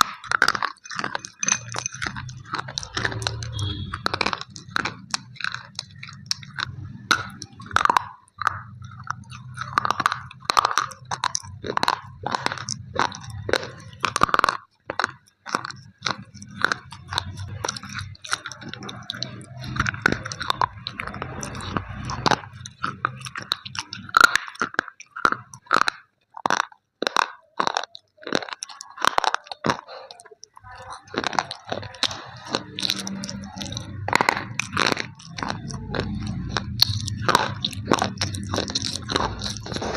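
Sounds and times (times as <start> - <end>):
crunching of slate pencils: 0.0 - 39.9.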